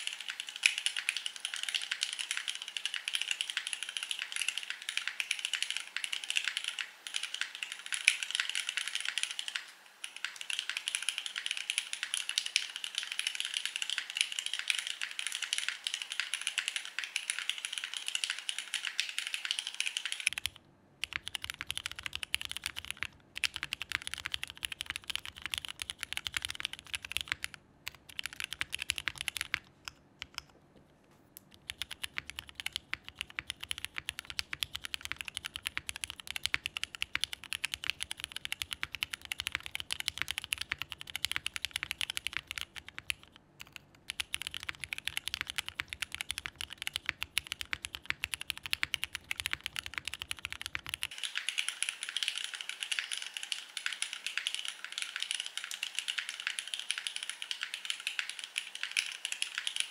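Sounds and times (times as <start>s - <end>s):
mechanical keyboard typing: 0.0s - 30.5s, 31.3s - 59.9s.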